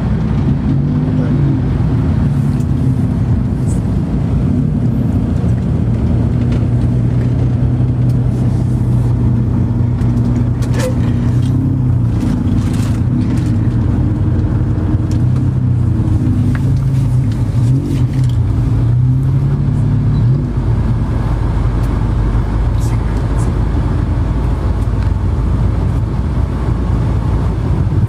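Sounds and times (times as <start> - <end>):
vehicle engine drone: 0.0 - 28.0.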